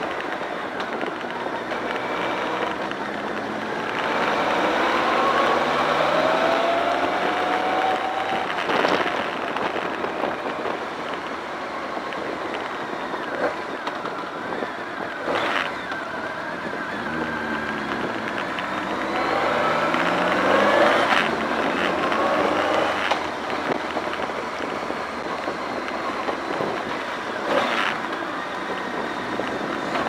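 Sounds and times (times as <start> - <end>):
motorcycle engine revving: 0.0 - 30.0
wet road noise: 0.0 - 30.0.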